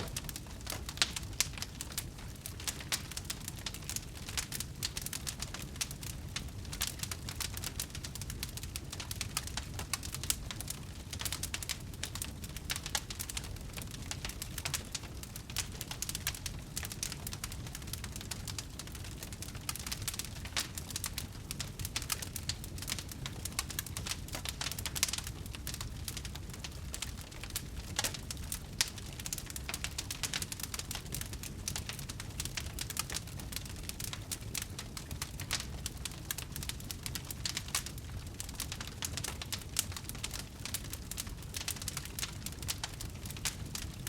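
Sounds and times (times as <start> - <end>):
burning logs crackling and popping: 0.0 - 44.0.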